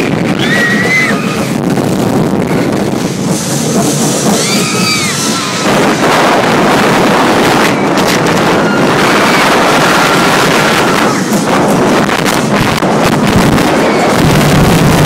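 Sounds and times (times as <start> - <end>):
roller coaster train on track: 0.0 - 15.0
wind rushing over microphone: 0.0 - 15.0.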